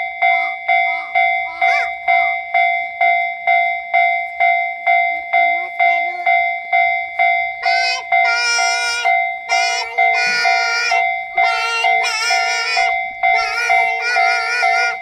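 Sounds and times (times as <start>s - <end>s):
held pitched tone: 0.0s - 4.1s, 6.2s - 15.0s
level crossing warning bell ringing: 0.0s - 15.0s.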